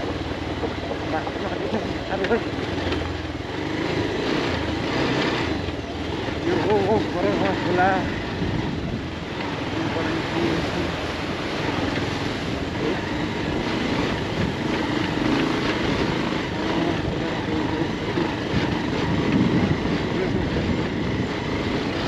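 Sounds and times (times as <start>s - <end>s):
motorcycle engine running: 0.0s - 22.0s
tyre road noise: 0.0s - 22.0s.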